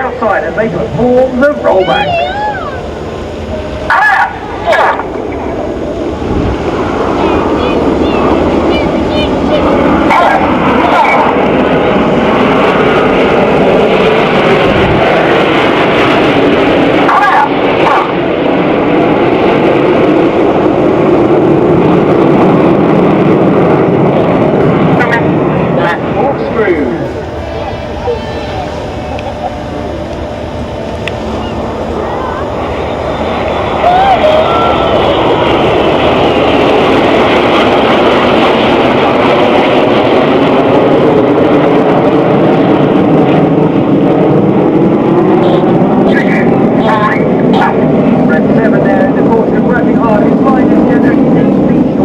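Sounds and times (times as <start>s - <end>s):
loud jet noise: 0.0s - 52.0s.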